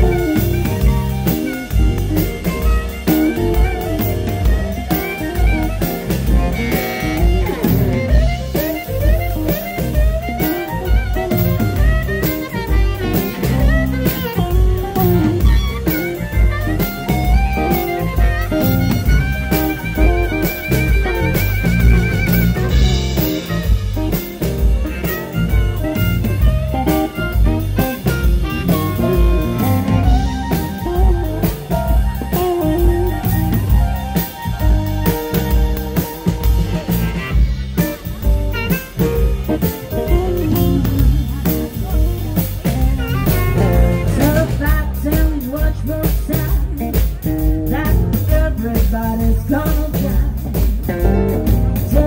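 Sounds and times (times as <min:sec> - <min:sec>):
amplified harmonica: 0:00.0 - 0:52.0
bass guitar: 0:00.0 - 0:52.0
drums keeping a steady beat: 0:00.0 - 0:52.0
electric blues band playing: 0:00.0 - 0:52.0
electric guitar: 0:00.0 - 0:52.0.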